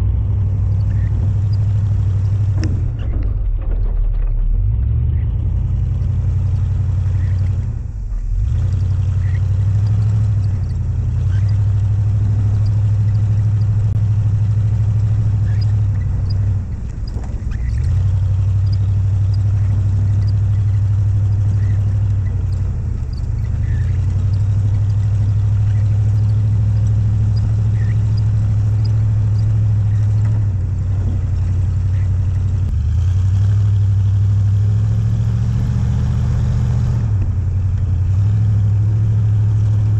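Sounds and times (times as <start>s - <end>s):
vehicle engine running under load: 0.0s - 39.9s.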